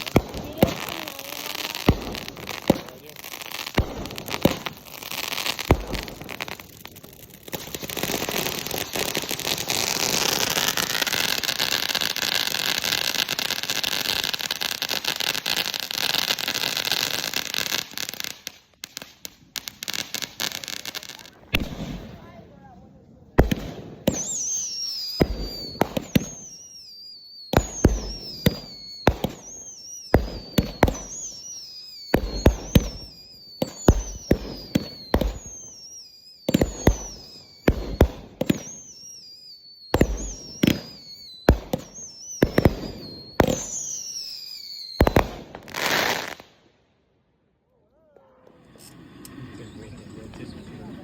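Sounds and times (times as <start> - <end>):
fireworks whistling: 0.0 - 22.4, 23.4 - 46.7, 48.3 - 51.0
fireworks bangs: 0.0 - 26.7, 27.4 - 39.2, 39.8 - 46.7.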